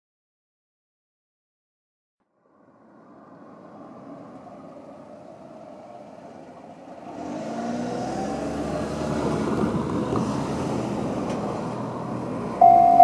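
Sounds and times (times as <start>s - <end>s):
cars driving past: 2.2s - 13.0s.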